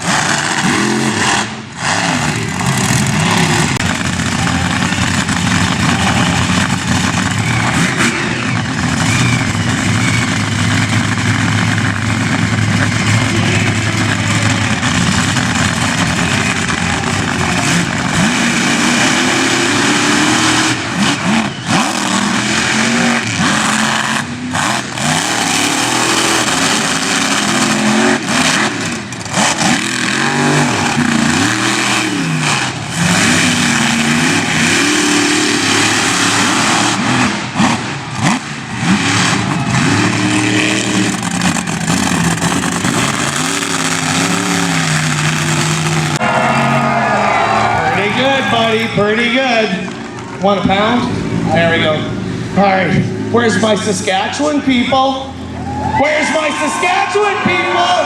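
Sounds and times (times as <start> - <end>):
truck engine revving: 0.0 - 55.6.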